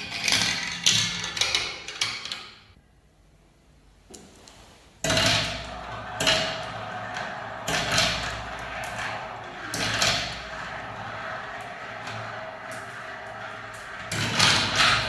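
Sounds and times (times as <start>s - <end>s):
marbles rolling down a track: 0.0s - 2.2s, 5.1s - 15.0s.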